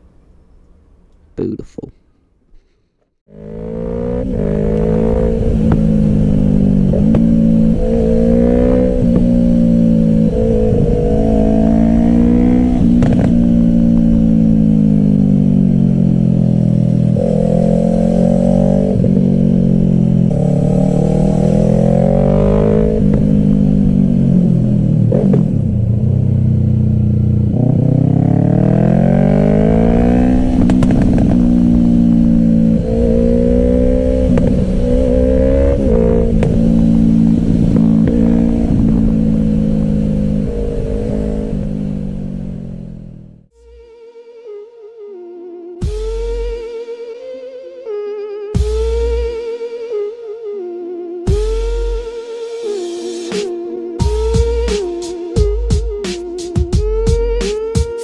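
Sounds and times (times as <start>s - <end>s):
motorcycle engine revving: 3.2s - 44.5s, 45.7s - 50.5s, 51.1s - 58.0s.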